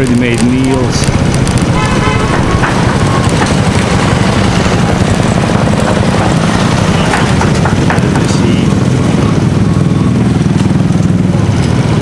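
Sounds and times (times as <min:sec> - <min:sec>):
faint voices: 0:00.0 - 0:10.2
vehicle engine rumble: 0:00.0 - 0:12.0.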